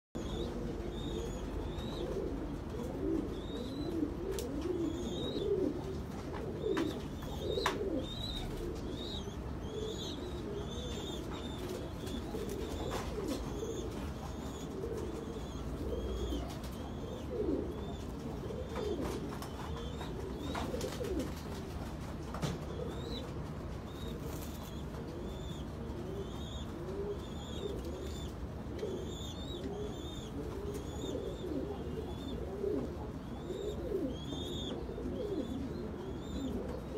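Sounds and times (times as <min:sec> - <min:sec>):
pigeons cooing: 0:00.2 - 0:36.9.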